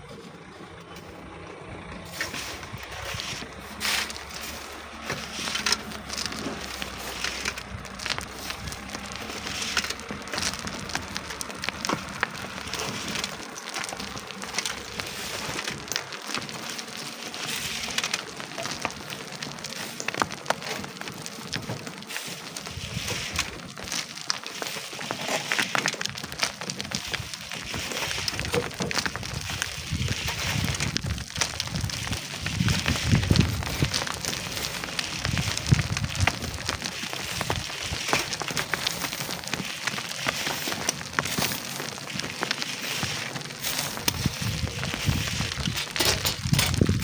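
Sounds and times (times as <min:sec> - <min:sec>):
digging sand and stones: 0:00.0 - 0:47.0.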